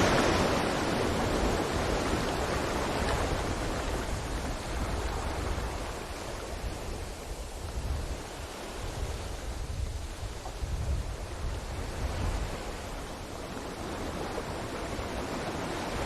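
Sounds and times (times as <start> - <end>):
ocean wave washing: 0.0 - 16.0.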